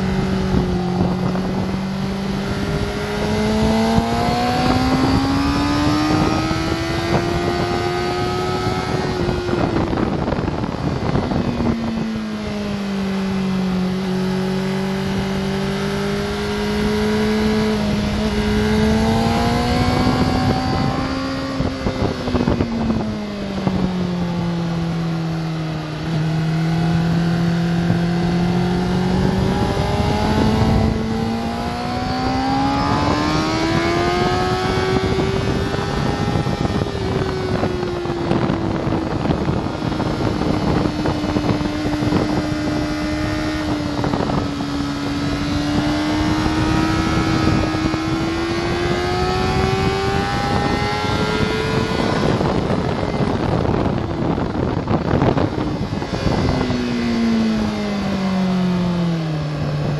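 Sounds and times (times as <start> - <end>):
motorcycle engine revving: 0.0 - 59.9
wind rushing: 0.0 - 59.9.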